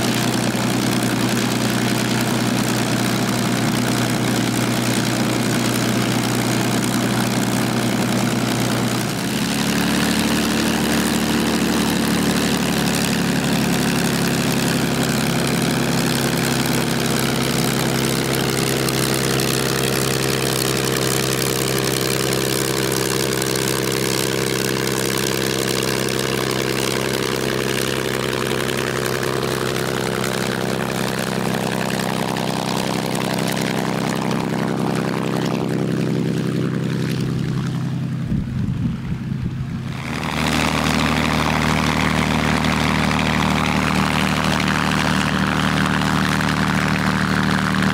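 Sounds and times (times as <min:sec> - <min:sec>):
propeller aircraft engine running: 0:00.0 - 0:47.9.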